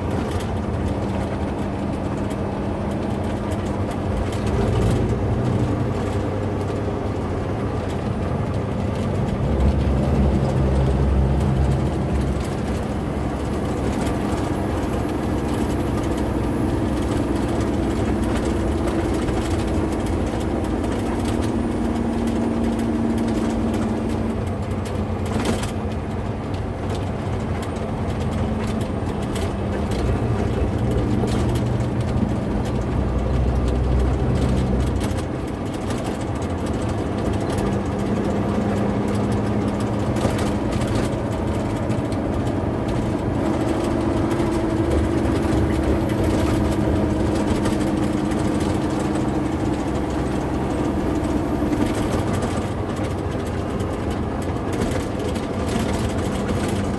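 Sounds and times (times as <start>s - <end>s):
road noise: 0.0s - 56.9s
vehicle engine running: 0.0s - 56.9s.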